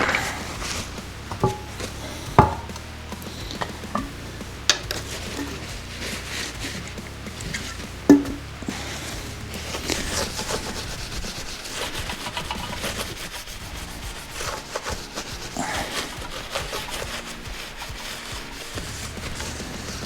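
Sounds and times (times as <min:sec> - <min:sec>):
hands scraping wheel rim: 0:00.0 - 0:20.0.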